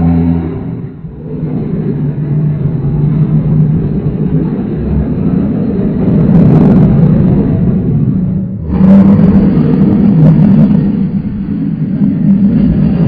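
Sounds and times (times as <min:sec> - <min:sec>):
low distorted rumbling drone: 0:00.0 - 0:13.0.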